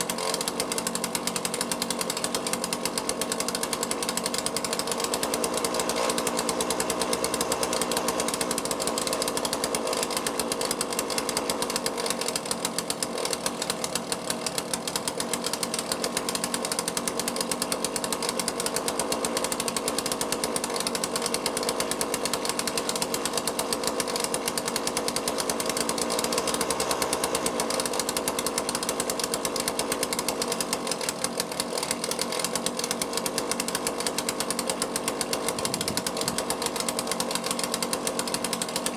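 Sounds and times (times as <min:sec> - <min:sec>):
chainsaw engine running: 0:00.0 - 0:38.9.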